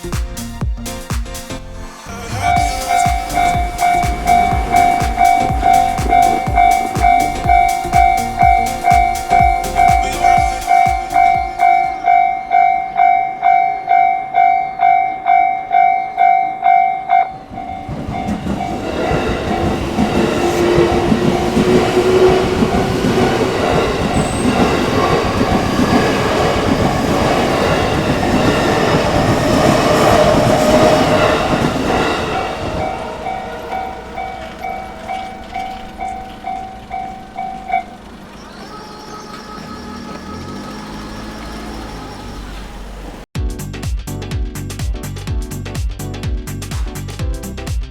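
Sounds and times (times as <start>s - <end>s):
level-crossing bell ringing: 2.4s - 42.6s
train wheels rumbling on rail: 2.5s - 14.5s, 15.3s - 43.3s.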